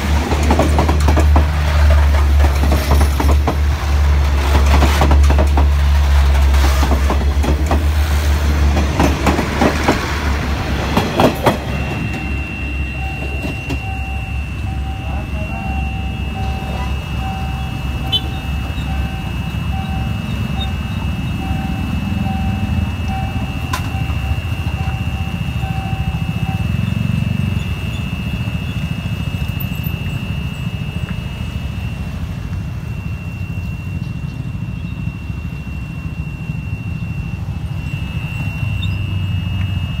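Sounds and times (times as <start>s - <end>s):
on-and-off beeping: 0.0s - 40.0s
vehicle engines at low speed: 0.0s - 40.0s
steady high-pitched tone: 5.2s - 40.0s.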